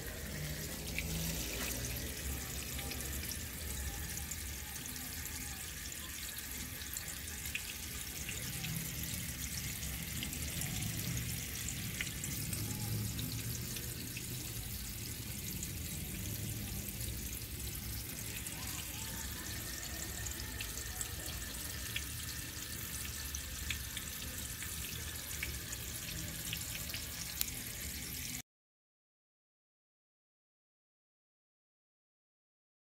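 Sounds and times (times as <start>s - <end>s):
running water hiss: 0.0s - 28.4s
small ticks and drips: 0.0s - 28.4s.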